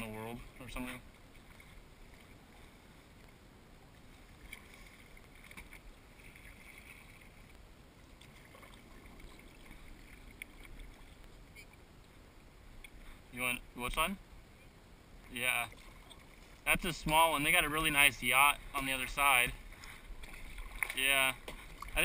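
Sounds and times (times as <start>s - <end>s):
paddle dipping and dripping: 0.0s - 13.3s, 15.2s - 22.0s.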